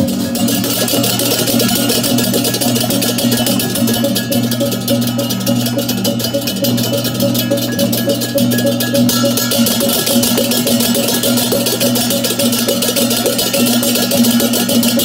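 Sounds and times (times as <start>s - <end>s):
clashing hand cymbals: 0.0s - 15.0s
hand drums: 0.0s - 15.0s
ringing pitched metal tones: 0.0s - 15.0s.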